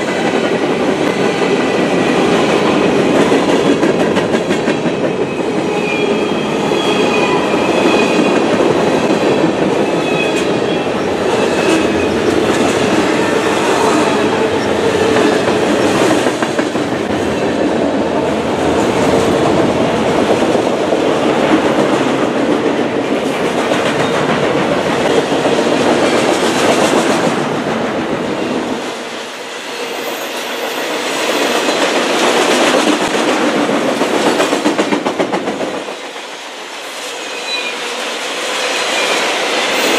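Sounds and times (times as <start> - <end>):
freight train rumble: 0.0 - 39.9.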